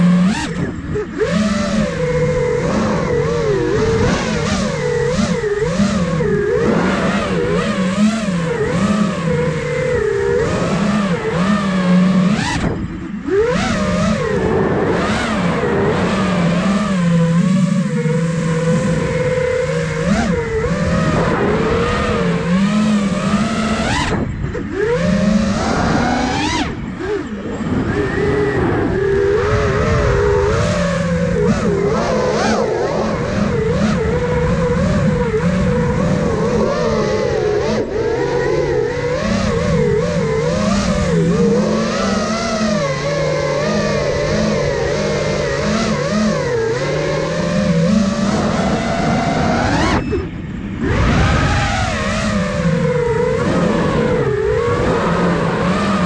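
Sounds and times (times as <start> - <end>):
drone motors buzzing whine: 0.0 - 56.0.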